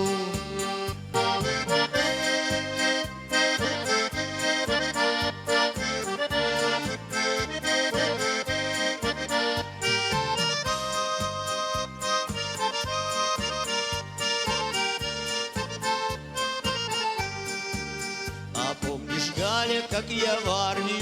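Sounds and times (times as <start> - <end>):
accordion melody: 0.0 - 21.0
bass and drum beat: 0.0 - 21.0.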